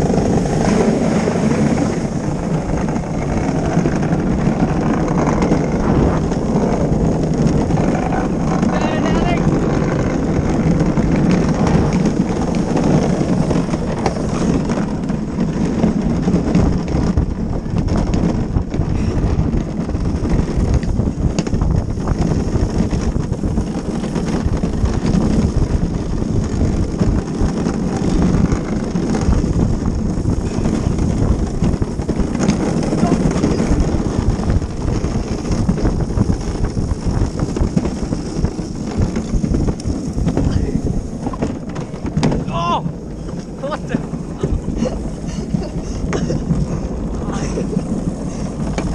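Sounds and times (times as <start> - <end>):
cart wheels rolling on asphalt: 0.0 - 48.9
wind buffeting microphone: 0.0 - 48.9.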